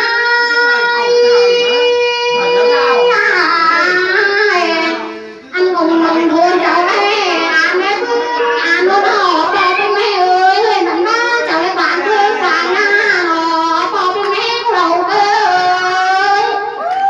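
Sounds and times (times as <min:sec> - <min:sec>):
woman singing unaccompanied: 0:00.0 - 0:16.8.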